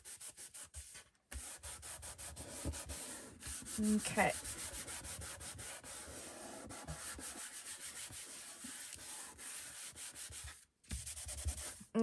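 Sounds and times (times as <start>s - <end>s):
towel rubbing paper: 0.0s - 11.9s.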